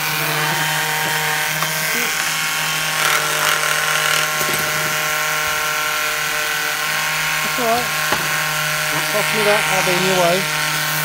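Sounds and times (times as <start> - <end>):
electric sander running: 0.0 - 11.0.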